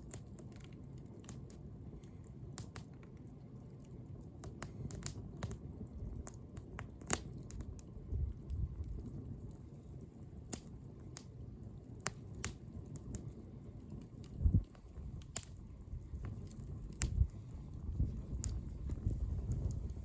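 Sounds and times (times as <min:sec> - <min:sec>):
bonfire crackling: 0:00.0 - 0:20.0.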